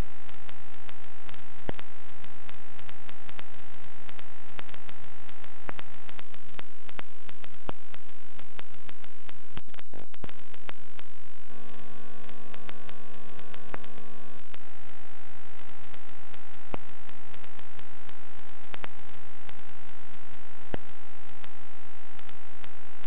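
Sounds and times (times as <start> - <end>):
electrical hum and static: 0.0 - 23.0
steady high whine: 0.0 - 23.0
small clicks: 0.2 - 22.9.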